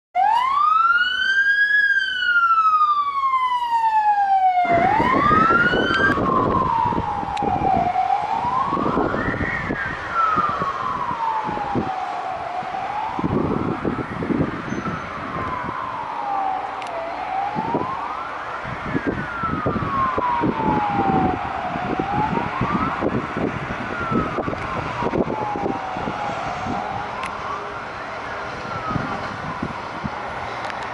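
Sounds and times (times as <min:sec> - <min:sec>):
ambulance siren wailing: 0:00.2 - 0:30.9
road noise: 0:00.2 - 0:30.9.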